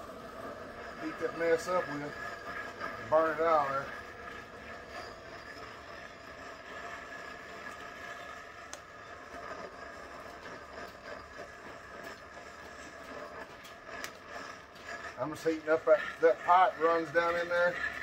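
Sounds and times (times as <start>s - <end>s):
torch flame hissing: 0.0s - 18.0s.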